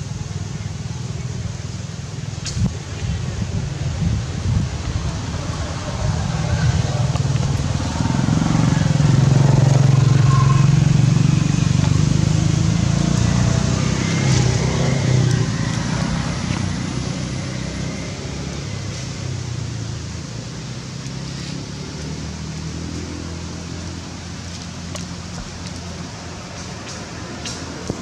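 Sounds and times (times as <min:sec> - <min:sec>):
outdoor background noise: 0:00.0 - 0:28.0
passing vehicle engine hum: 0:00.0 - 0:28.0.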